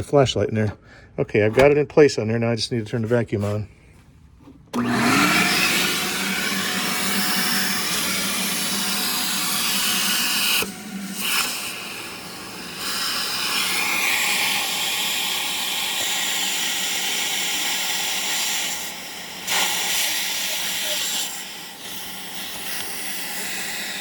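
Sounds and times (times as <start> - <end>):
vacuum cleaner sucking air: 4.8 - 24.0.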